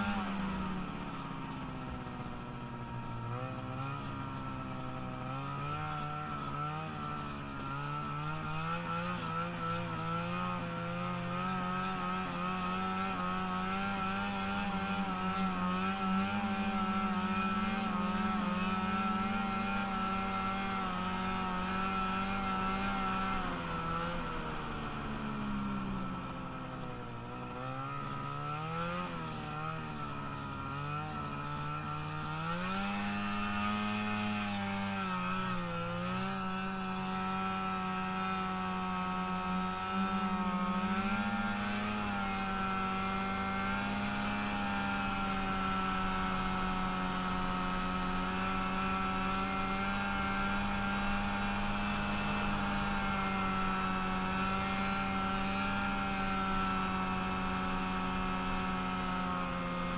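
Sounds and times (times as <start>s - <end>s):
small vehicle engine revving: 0.0s - 59.9s.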